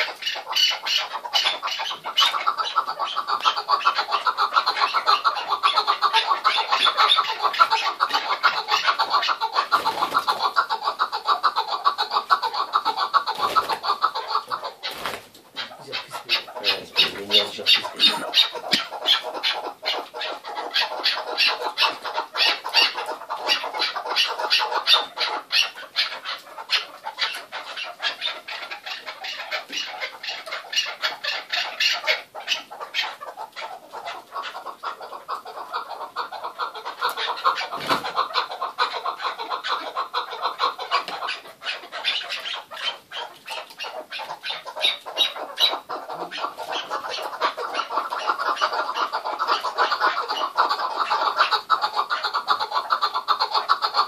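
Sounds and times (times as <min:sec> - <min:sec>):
partridges calling: 0:00.0 - 0:54.0.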